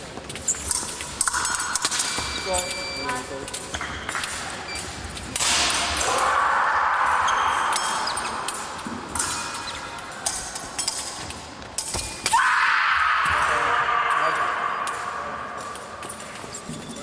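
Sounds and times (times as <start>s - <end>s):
fencing blades clinking: 0.0s - 6.4s, 7.2s - 12.5s, 13.4s - 17.0s.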